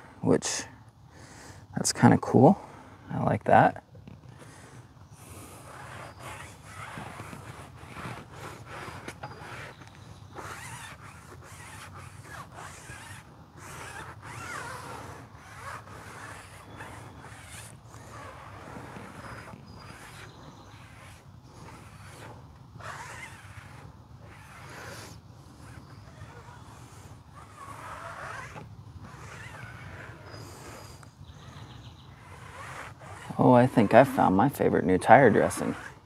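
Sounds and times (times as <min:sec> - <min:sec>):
foam pad rubbing on tire: 0:04.1 - 0:36.0
squeaking: 0:05.3 - 0:36.0.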